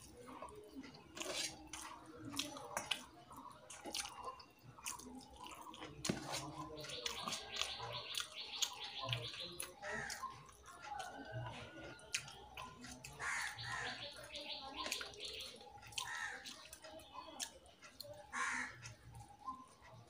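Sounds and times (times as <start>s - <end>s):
fingers squishing rice: 0.0s - 19.8s
wet chewing and lip-smacking: 0.0s - 20.0s.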